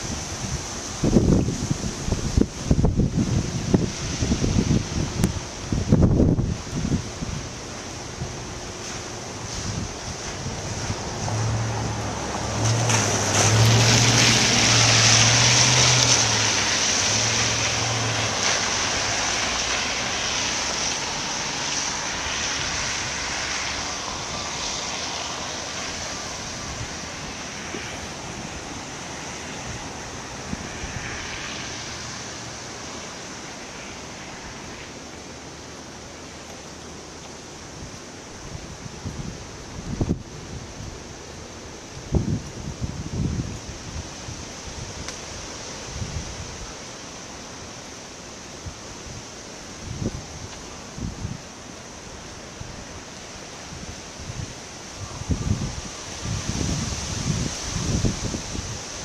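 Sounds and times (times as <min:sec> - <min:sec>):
storm wind buffeting microphone: 0:00.0 - 0:34.7, 0:37.7 - 0:46.9, 0:48.6 - 0:59.0.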